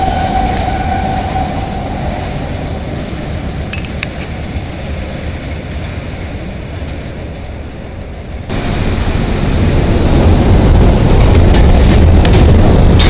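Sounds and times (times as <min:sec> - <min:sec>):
elevated train rumble: 0:00.0 - 0:13.0
train running past: 0:00.0 - 0:13.0.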